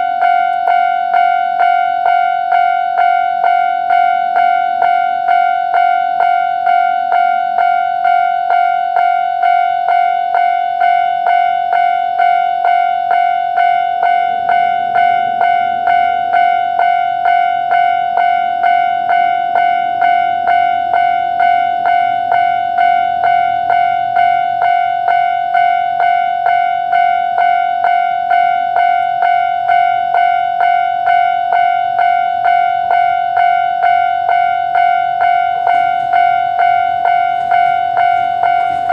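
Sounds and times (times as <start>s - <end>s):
level crossing alarm bell ringing: 0.0s - 38.9s.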